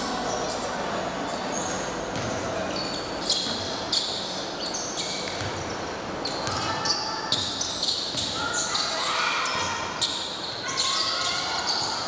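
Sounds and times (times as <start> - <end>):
sneakers squeaking on court: 1.3 - 12.0.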